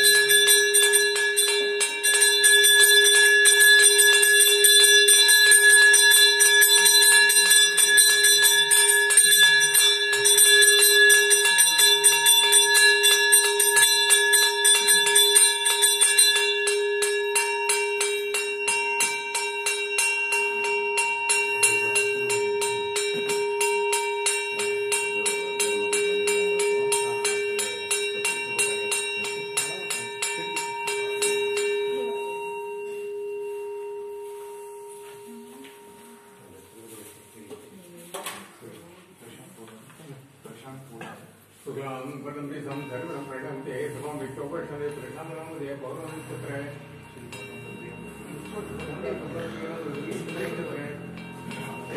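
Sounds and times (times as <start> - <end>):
temple bell rung rapidly: 0.0 - 35.4, 42.6 - 51.9.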